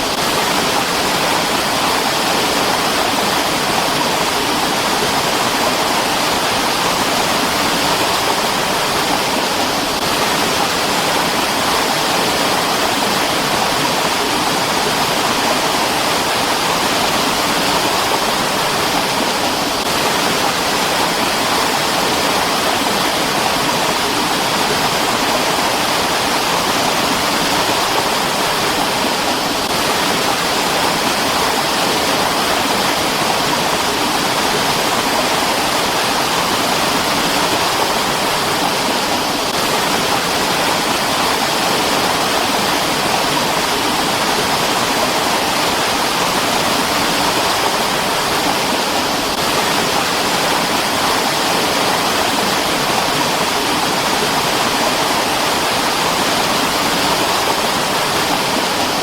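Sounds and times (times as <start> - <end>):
mountain stream flowing: 0.0 - 59.0.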